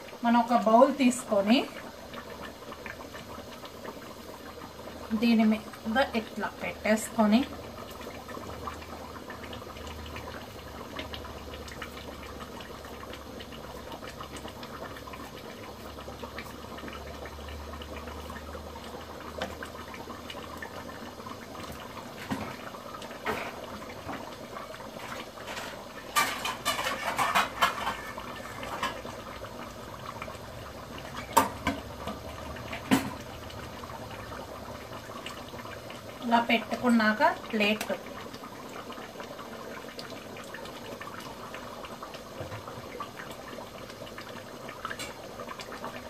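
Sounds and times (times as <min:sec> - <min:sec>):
curry bubbling in a pot: 0:00.0 - 0:46.0.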